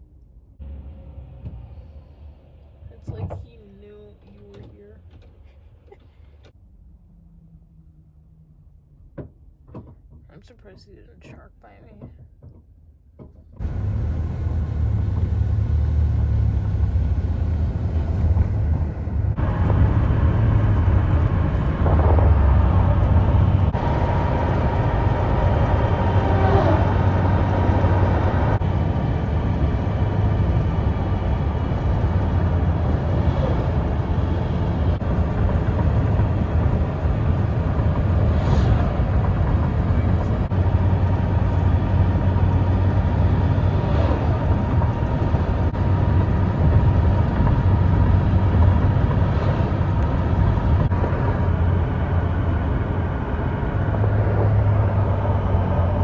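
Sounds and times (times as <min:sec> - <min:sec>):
highway traffic rumble: 0:00.0 - 0:12.2, 0:13.2 - 0:56.0.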